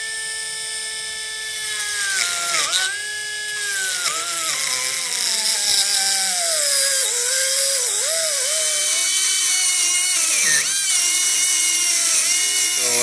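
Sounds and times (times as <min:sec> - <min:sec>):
die grinder whining on metal: 0:00.0 - 0:13.0.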